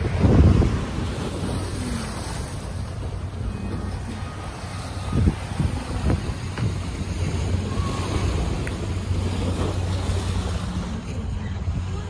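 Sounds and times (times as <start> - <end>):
low engine hum: 0.0 - 12.0
road noise: 0.0 - 12.0.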